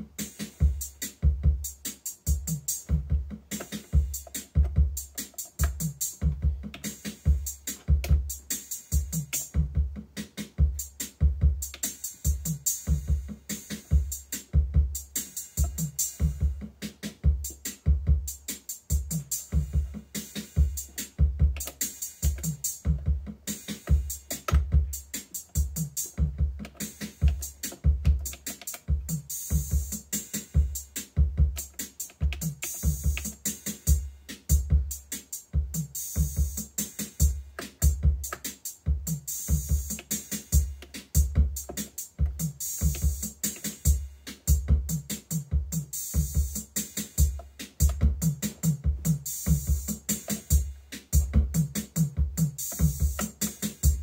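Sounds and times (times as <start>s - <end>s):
drum machine pattern: 0.0s - 54.0s.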